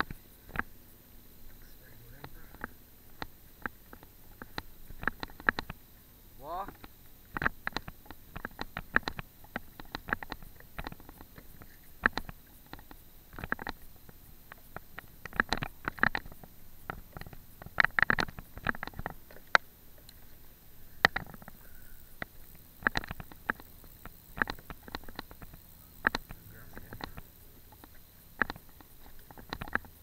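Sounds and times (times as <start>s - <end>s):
fishing tackle clicks and knocks: 0.0s - 0.8s, 1.4s - 5.9s, 6.6s - 30.0s.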